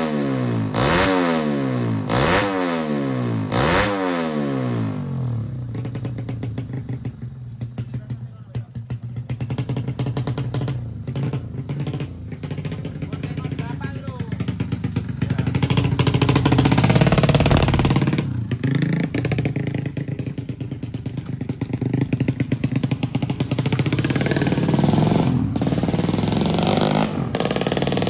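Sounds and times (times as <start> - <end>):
racing motorcycle engine revving: 0.0 - 8.0, 8.6 - 28.0.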